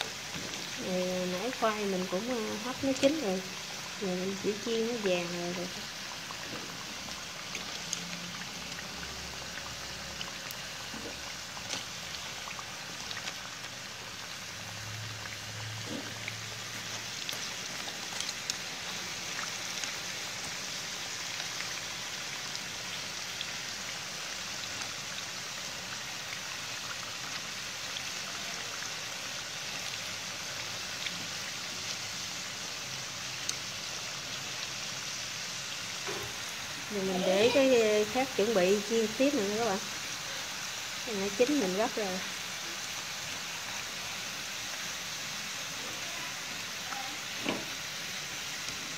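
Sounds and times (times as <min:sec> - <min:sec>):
deep-frying sizzle with pops: 0:00.0 - 0:48.9.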